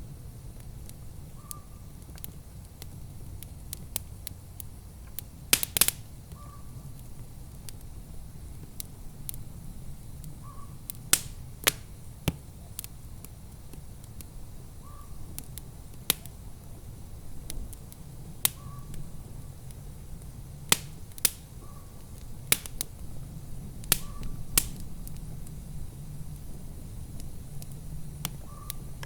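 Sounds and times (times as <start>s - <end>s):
low steady rumble: 0.0s - 29.0s
wood fire crackling: 0.0s - 29.0s.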